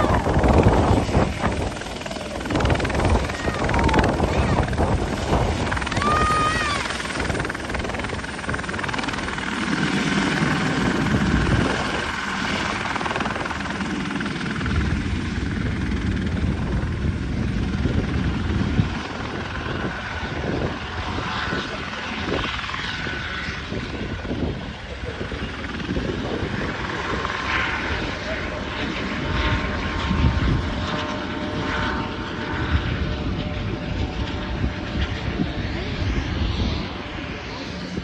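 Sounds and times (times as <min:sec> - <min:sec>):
helicopter rotor noise: 0:00.0 - 0:38.0
turbine whine: 0:00.0 - 0:38.0.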